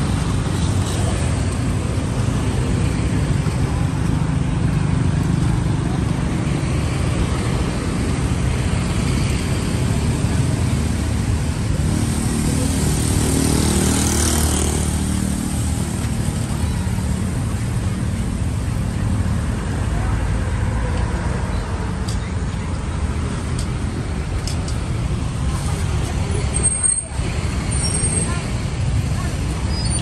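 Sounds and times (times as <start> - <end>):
street traffic noise: 0.0 - 30.0.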